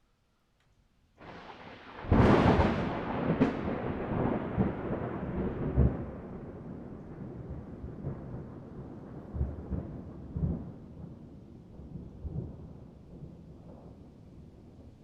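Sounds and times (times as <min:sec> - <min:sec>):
rain: 0:01.2 - 0:15.0
thunder rumbling: 0:01.2 - 0:15.0.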